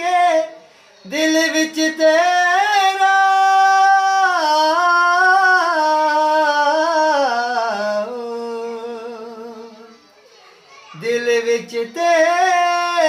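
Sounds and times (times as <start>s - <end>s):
man singing melisma: 0.0s - 9.7s, 11.0s - 13.0s.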